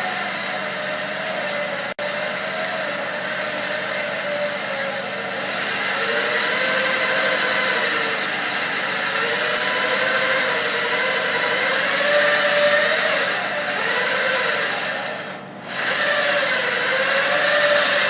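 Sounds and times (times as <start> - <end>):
power drill boring through metal: 0.0 - 18.0.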